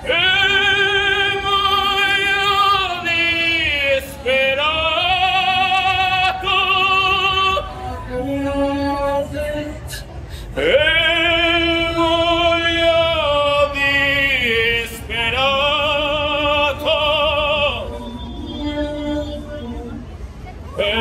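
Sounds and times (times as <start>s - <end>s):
operatic solo singing voice: 0.0s - 20.1s, 20.8s - 21.0s.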